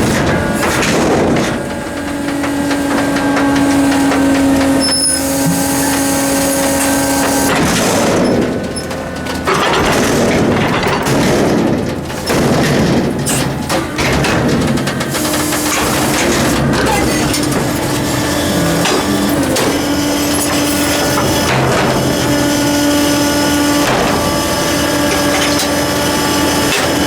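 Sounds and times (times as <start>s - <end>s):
hydraulic pump whining: 0.0s - 27.0s
rough noisy clatter: 0.0s - 27.0s.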